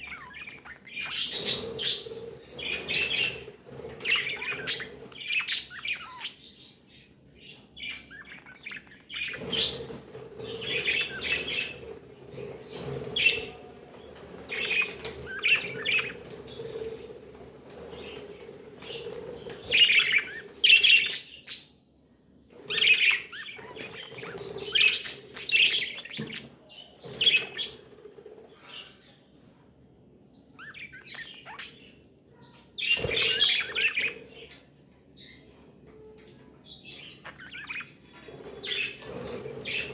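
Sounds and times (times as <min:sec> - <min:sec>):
budgerigars chirping and warbling: 0:00.0 - 0:21.7, 0:22.6 - 0:29.2, 0:30.4 - 0:34.6, 0:35.2 - 0:39.9.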